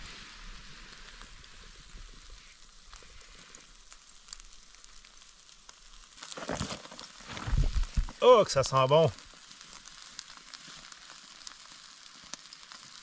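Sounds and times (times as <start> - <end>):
steak sizzling over fire: 0.0 - 13.0.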